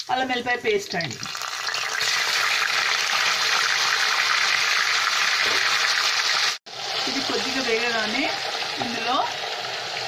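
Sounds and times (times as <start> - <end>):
paste sizzling in hot oil: 0.8 - 10.0.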